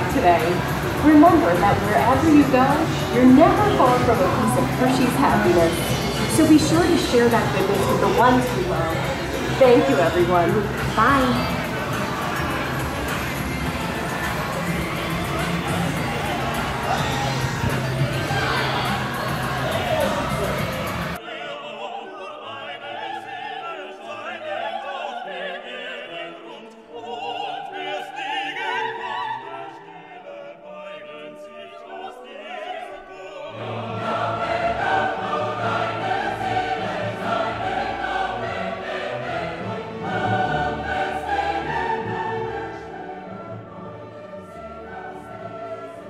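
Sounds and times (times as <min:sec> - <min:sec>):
operatic choir singing: 0:00.0 - 0:46.0.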